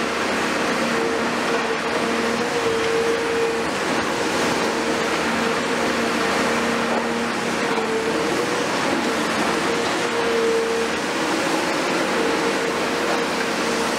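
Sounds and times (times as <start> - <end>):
excavator diesel engine droning: 0.0 - 13.9.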